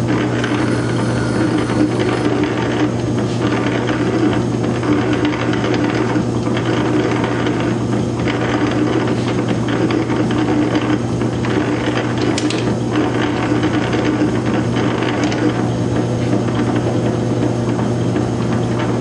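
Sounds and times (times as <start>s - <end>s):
metal lathe gear hum and clatter: 0.0s - 19.0s.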